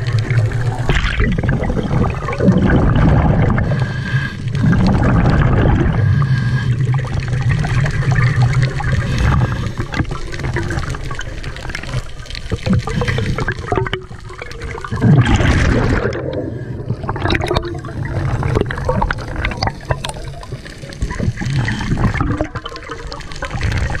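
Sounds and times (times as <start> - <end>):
small bubbling clicks: 0.0 - 3.8, 4.4 - 6.1, 6.7 - 24.0
bubbles gurgling underwater: 0.0 - 24.0.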